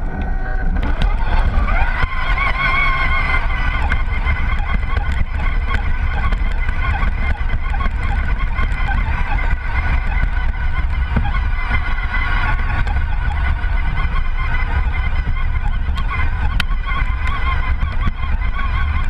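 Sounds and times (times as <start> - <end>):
electric motor whining: 0.0 - 19.0
low rumble of vibration: 0.0 - 19.0
small clicks and crackles: 0.0 - 19.0.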